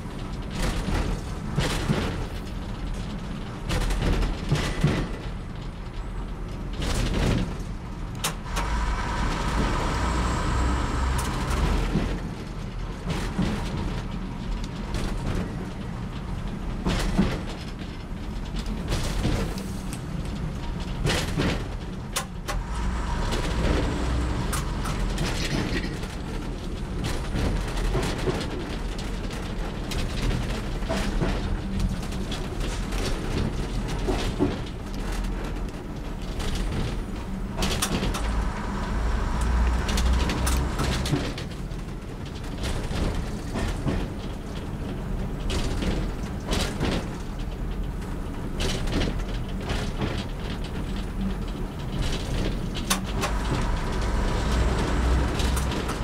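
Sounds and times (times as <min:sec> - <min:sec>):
diesel train engine drone: 0:00.0 - 0:56.0
train wheels knocking and clattering: 0:00.0 - 0:56.0.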